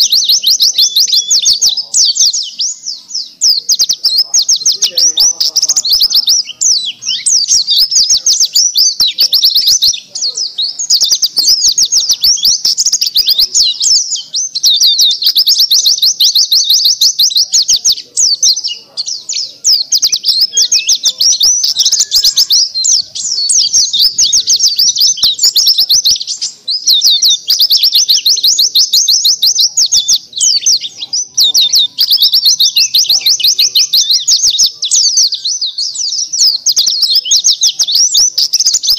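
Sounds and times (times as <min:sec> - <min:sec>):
bird twittering warble: 0:00.0 - 0:38.9.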